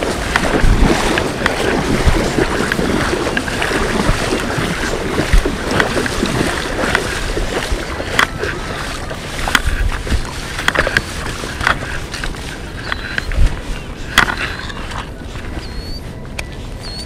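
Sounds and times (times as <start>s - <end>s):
fish splashing in river water: 0.0s - 15.4s
wind buffeting microphone: 0.0s - 17.0s.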